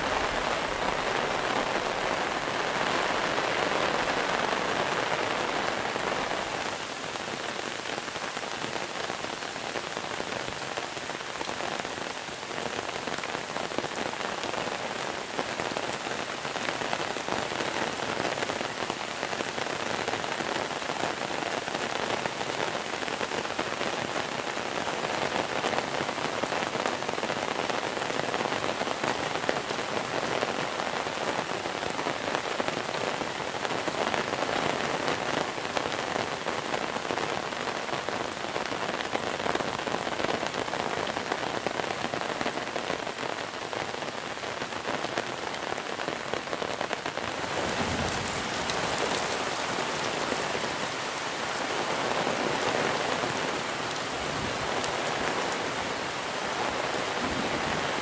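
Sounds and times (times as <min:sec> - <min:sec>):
rain falling on surfaces: 0:00.0 - 0:58.0.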